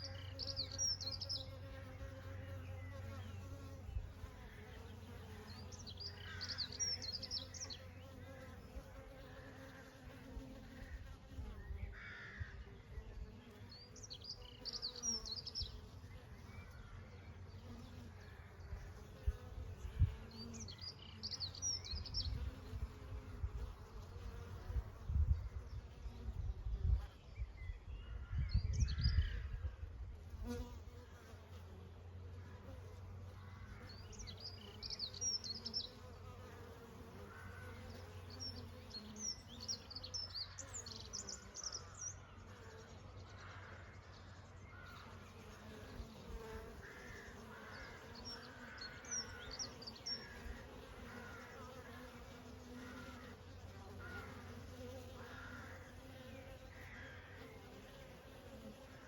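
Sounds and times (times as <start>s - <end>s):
bees buzzing: 0.0s - 26.4s, 30.4s - 43.1s, 44.8s - 59.0s.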